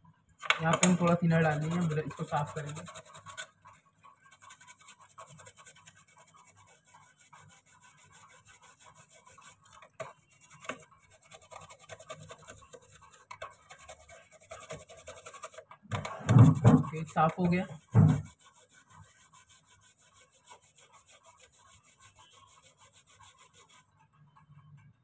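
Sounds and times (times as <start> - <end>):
small brush scrubbing circuit board: 0.6 - 24.9.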